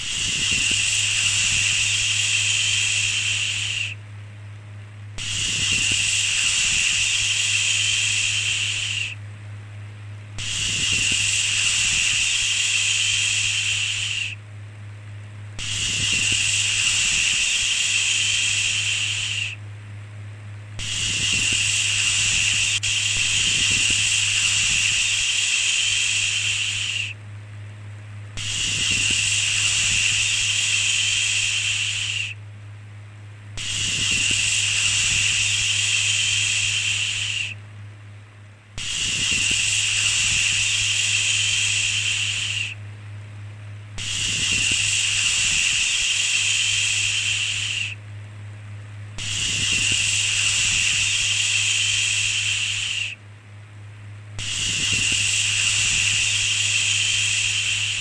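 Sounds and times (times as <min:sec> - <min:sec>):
shushing hiss: 0:00.0 - 0:04.0, 0:05.2 - 0:09.2, 0:10.3 - 0:14.4, 0:15.5 - 0:19.6, 0:20.7 - 0:27.2, 0:28.3 - 0:32.4, 0:33.5 - 0:37.6, 0:38.8 - 0:42.8, 0:44.0 - 0:48.0, 0:49.1 - 0:53.2, 0:54.3 - 0:58.0
steady low hum: 0:00.0 - 0:58.0.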